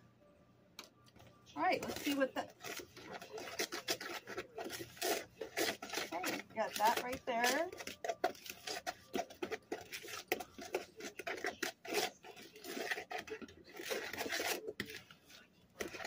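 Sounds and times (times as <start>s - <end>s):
utensil scraping mixing bowl: 1.6s - 16.0s.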